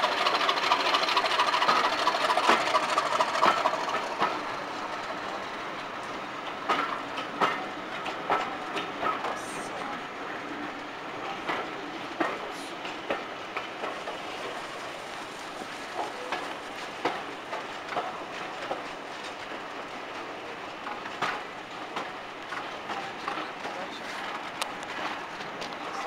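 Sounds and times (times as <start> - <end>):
train wheels over rail joints: 0.0 - 26.0.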